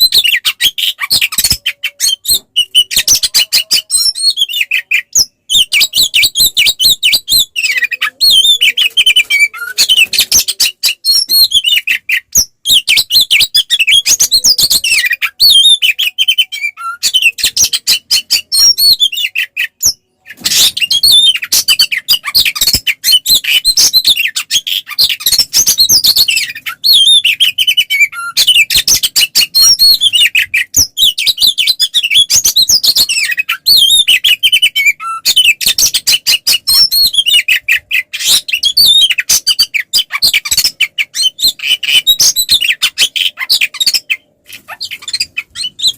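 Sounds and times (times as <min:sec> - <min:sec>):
songbird singing rapid whistles: 0:00.0 - 0:45.9.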